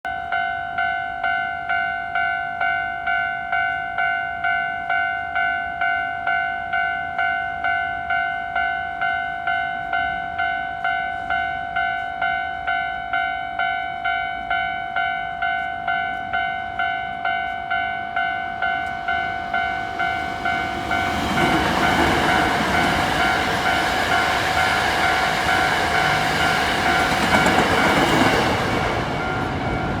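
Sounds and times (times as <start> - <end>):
level-crossing bell dinging: 0.2 - 30.0
train passing on rails: 1.2 - 30.0.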